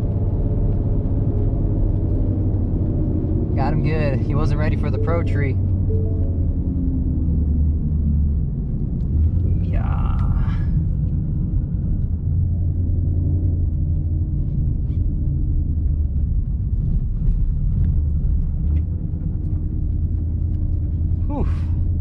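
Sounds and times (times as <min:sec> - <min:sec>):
car engine low rumble: 0:00.0 - 0:22.0.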